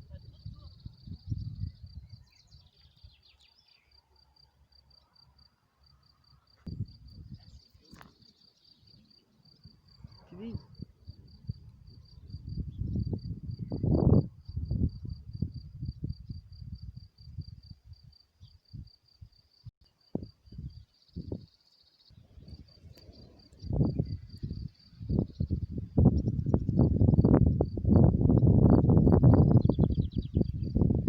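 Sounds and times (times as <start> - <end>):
cricket chirping: 0.0 - 31.0.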